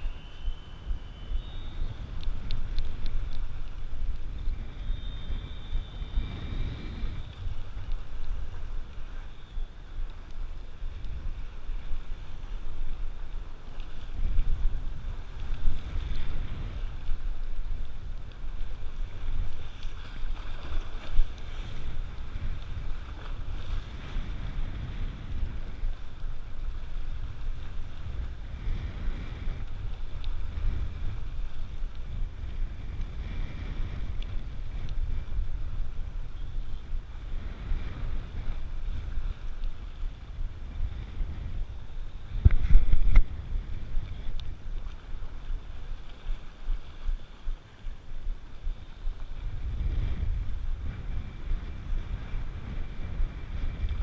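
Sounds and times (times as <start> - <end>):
sea washing against shore: 0.0 - 54.0
wind buffeting microphone: 0.0 - 54.0.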